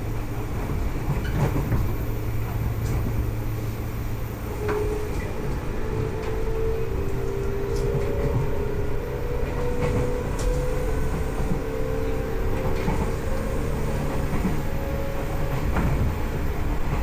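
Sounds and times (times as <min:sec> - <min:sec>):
train motor whine: 0:00.0 - 0:17.0
wheels rumbling on track: 0:00.0 - 0:17.0.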